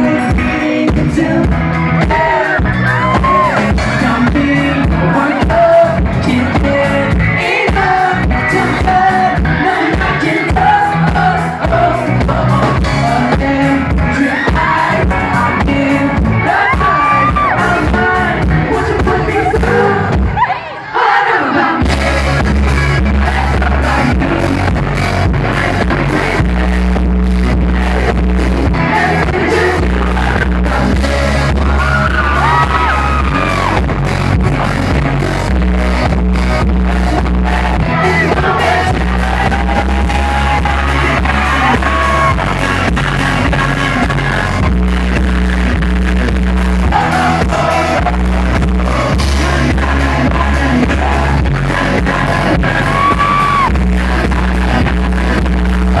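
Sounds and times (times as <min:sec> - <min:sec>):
pop-rock music with singing: 0:00.0 - 0:56.0.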